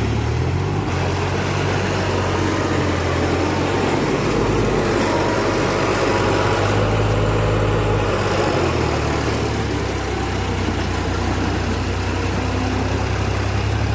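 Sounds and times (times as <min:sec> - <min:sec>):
tractor engine running: 0:00.0 - 0:13.9.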